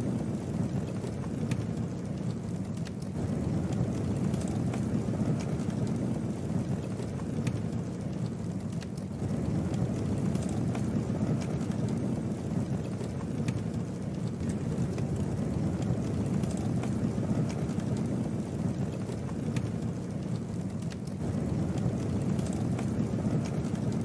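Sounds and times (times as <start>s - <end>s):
campfire flames rushing: 0.0s - 24.0s
wood crackling and popping: 0.0s - 24.0s.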